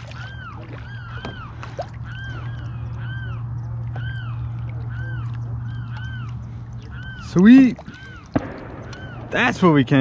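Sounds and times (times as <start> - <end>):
birds cawing: 0.0 - 10.0
low hum: 0.0 - 10.0.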